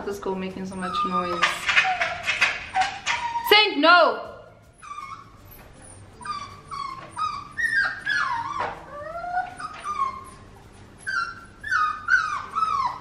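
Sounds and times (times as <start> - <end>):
dog whining and yelping: 0.7 - 13.0.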